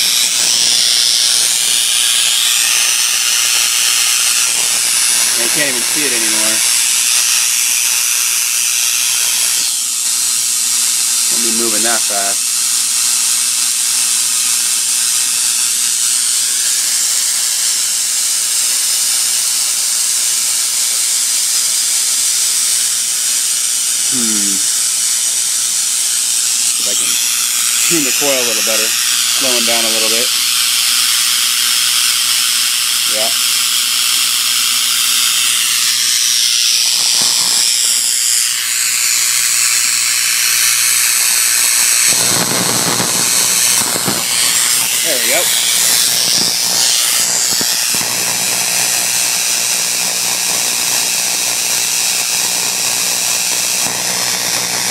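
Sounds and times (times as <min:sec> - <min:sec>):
high-voltage spark gap hissing: 0:00.0 - 0:54.9
tesla coil buzzing: 0:00.0 - 0:54.9.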